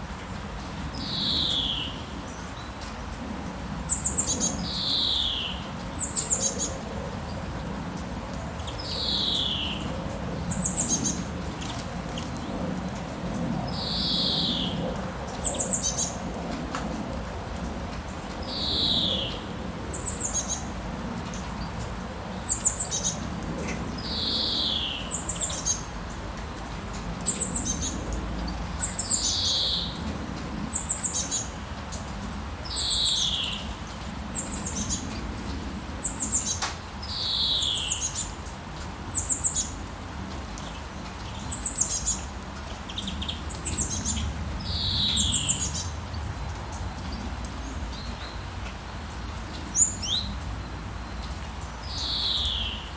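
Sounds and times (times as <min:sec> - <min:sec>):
rain hiss: 0:00.0 - 0:52.9.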